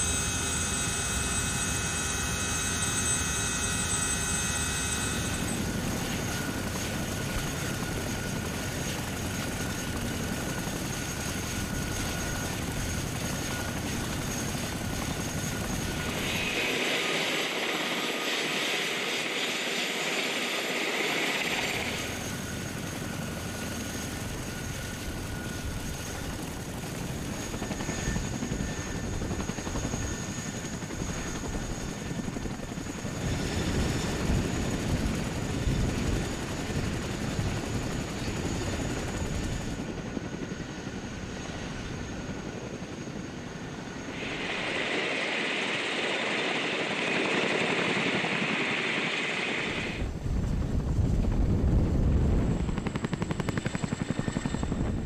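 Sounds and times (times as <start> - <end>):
helicopter rotors turning: 0.0 - 55.0
turbine engines whining: 0.0 - 55.0.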